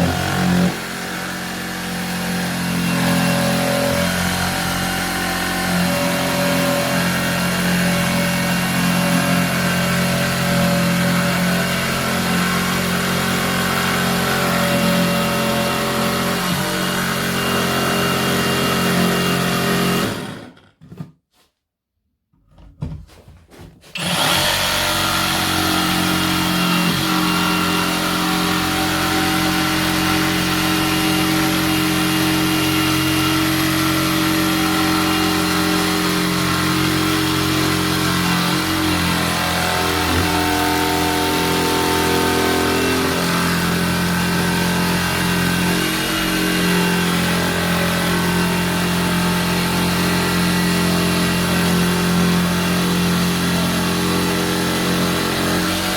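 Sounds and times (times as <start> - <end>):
jigsaw cutting worktop: 0.0 - 21.2, 22.6 - 55.9.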